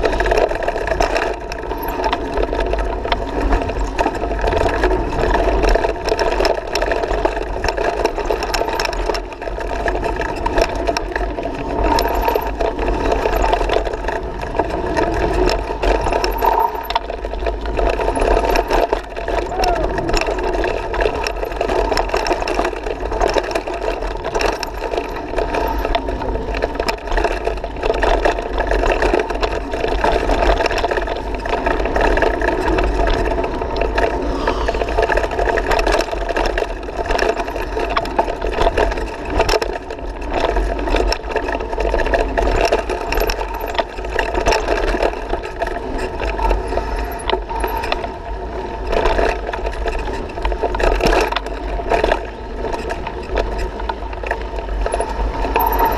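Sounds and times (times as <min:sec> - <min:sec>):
bike rattling and knocking: 0:00.0 - 0:55.9
bike tyres rumbling over dirt: 0:00.0 - 0:55.9
wind rumbling on microphone: 0:00.0 - 0:55.9.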